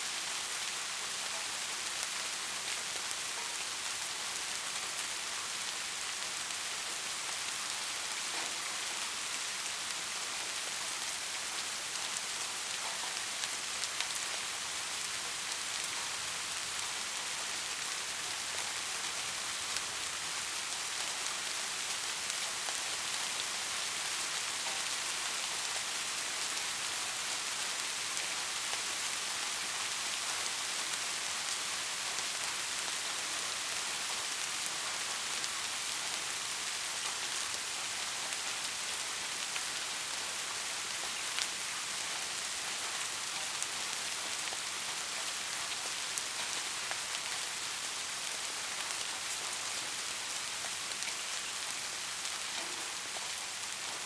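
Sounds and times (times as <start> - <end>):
soft rain hiss: 0.0 - 54.0.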